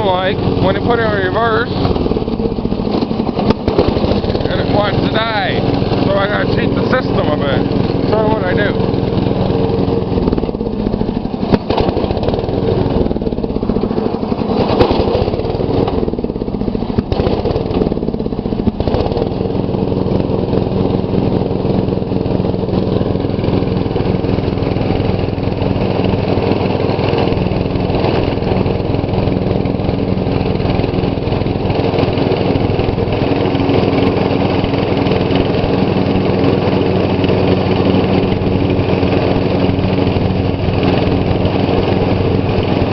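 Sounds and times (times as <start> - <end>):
riding mower engine running: 0.0 - 42.9.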